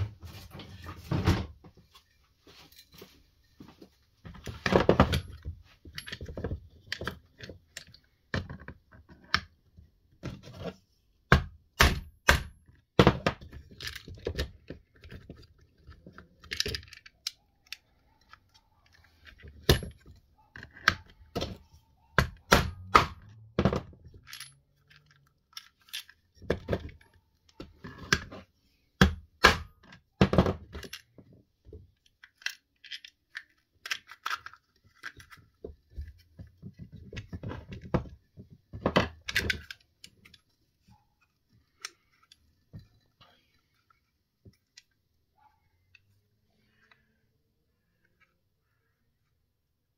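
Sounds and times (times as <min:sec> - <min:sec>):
small parts and tools clinking: 0:01.8 - 0:10.2, 0:12.6 - 0:28.3, 0:29.7 - 0:47.1.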